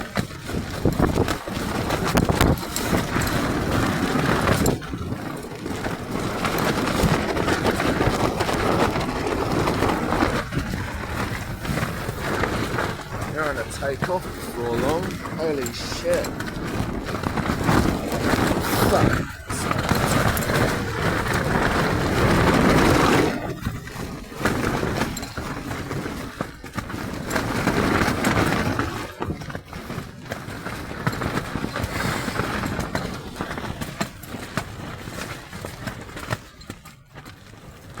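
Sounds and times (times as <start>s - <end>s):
tent fabric flapping: 0.0s - 38.0s
wind gusts battering a tent: 0.0s - 38.0s.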